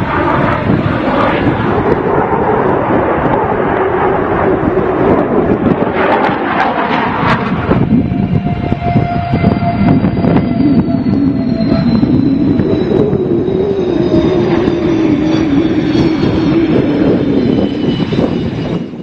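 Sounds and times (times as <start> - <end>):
jet engine high whine: 0.0 - 19.0
jet engine rumble: 0.0 - 19.0.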